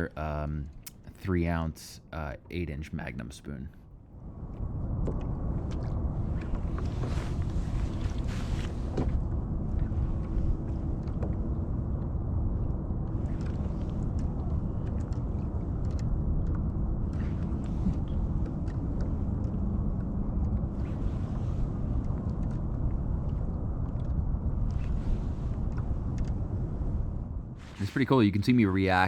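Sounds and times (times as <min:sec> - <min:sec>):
wind on microphone: 0:04.3 - 0:29.0
water against kayak hull: 0:04.4 - 0:28.2
faint clicks and ticks: 0:04.4 - 0:29.0.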